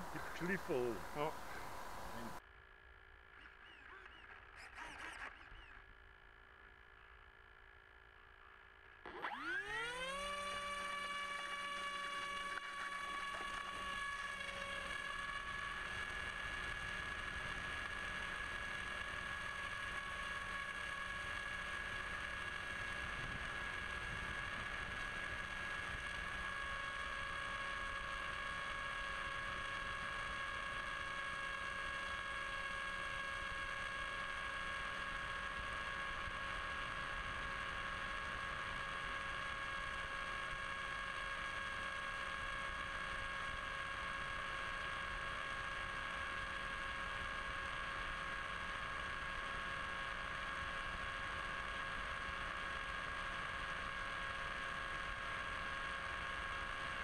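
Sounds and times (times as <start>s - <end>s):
electric motor and propeller whine: 0.0s - 4.8s, 5.5s - 57.0s.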